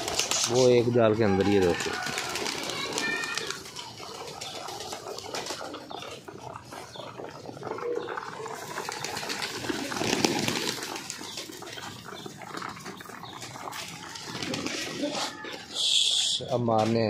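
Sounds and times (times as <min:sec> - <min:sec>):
pigeon wings flapping: 0:00.0 - 0:15.7
birds pecking and scuffling: 0:00.0 - 0:17.0
pigeons cooing: 0:00.0 - 0:17.0.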